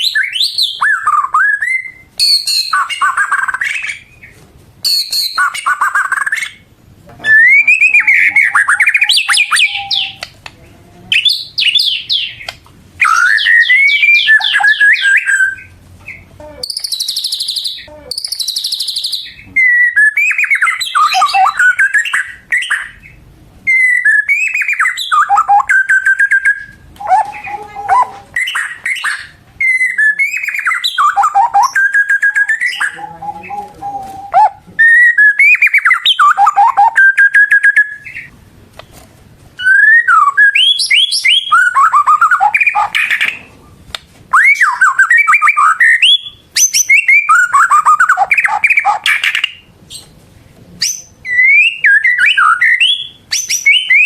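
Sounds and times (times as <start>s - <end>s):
songbird whistling and trilling: 0.0s - 6.6s, 7.2s - 10.3s, 11.1s - 38.3s, 39.6s - 43.5s, 44.3s - 50.1s, 50.8s - 54.0s.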